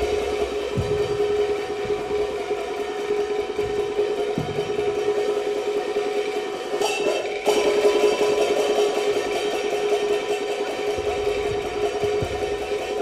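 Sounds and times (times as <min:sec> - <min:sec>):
drums gongs and cymbals: 0:00.0 - 0:13.0.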